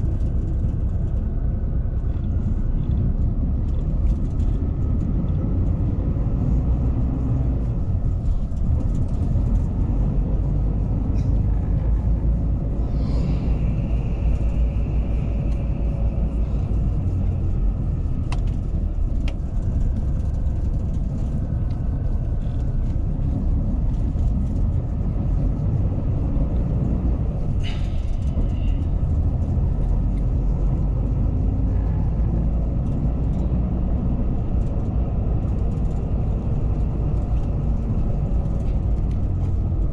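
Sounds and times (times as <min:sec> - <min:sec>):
coach engine and road rumble: 0:00.0 - 0:39.9.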